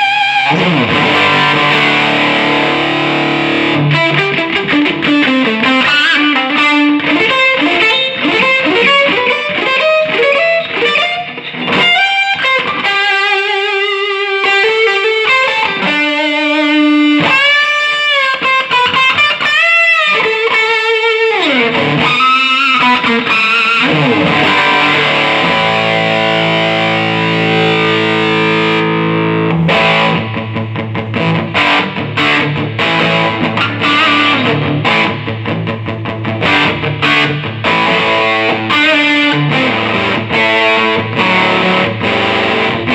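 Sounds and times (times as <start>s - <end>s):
electric guitar playing: 0.0s - 42.9s.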